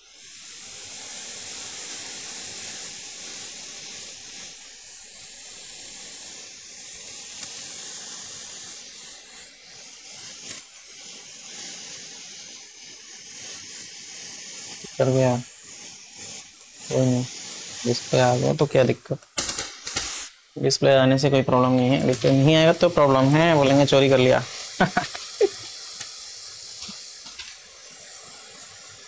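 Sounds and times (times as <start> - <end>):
blown air hissing: 0.0 - 29.0.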